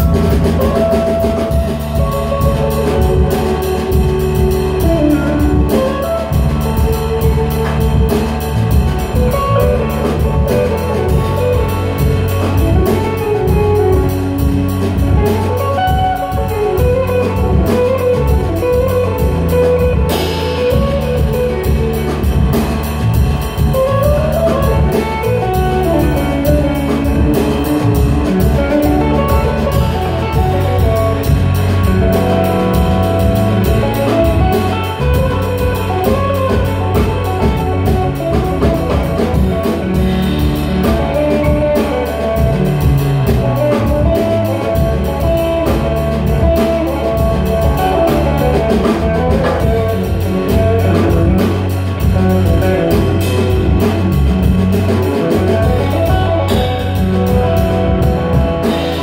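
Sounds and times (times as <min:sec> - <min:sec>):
electric bass guitar: 0:00.0 - 0:59.0
percussion beat: 0:00.0 - 0:59.0.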